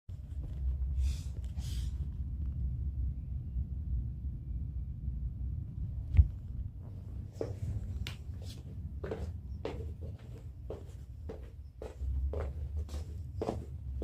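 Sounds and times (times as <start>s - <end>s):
low steady rumble: 0.1s - 14.0s.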